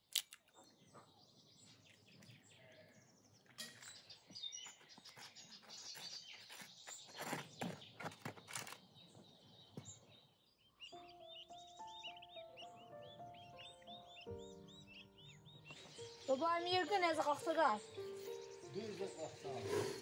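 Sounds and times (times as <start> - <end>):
small songbirds chirping: 0.0 - 20.0.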